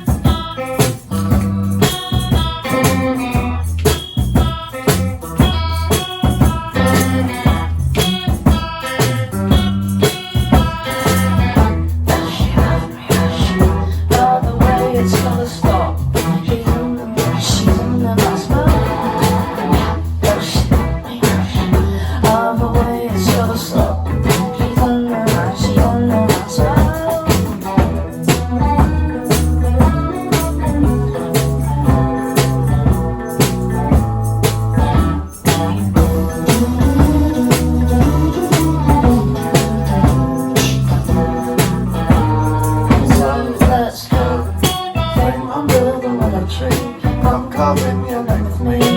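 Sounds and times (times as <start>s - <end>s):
bass: 0.0s - 48.9s
rock band playing instrumental: 0.0s - 48.9s
steady drum beat: 0.0s - 48.9s.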